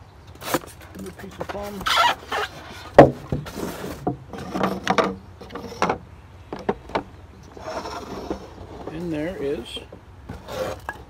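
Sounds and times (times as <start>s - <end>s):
foam and plastic rubs and scrapes: 0.4s - 5.9s, 7.4s - 11.0s.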